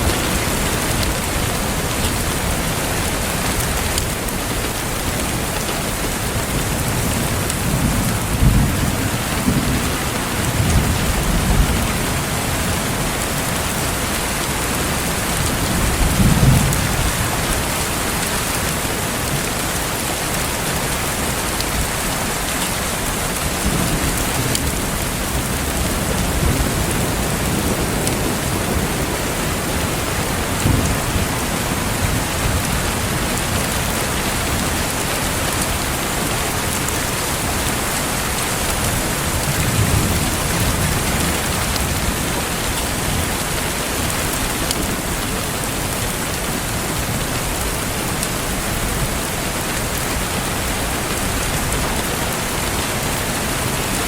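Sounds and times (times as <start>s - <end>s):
thunder rumbling: 0.0s - 20.0s, 21.7s - 45.3s
rain hissing: 0.0s - 54.0s.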